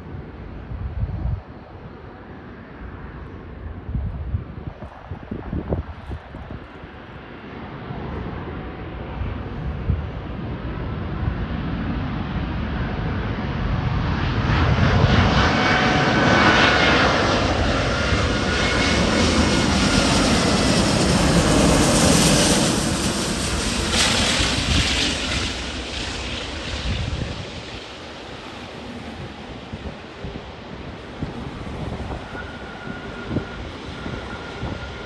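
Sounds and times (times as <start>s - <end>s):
jet roar: 0.0s - 35.0s.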